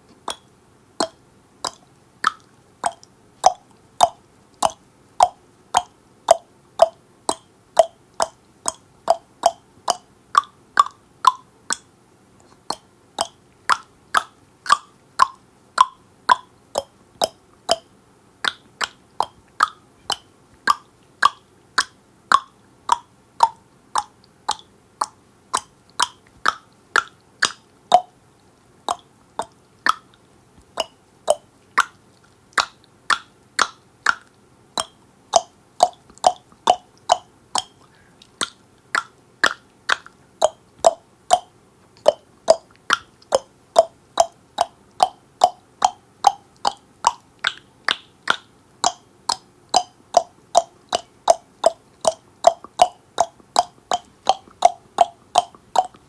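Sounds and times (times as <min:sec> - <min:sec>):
tongue clicks: 0:00.0 - 0:56.0.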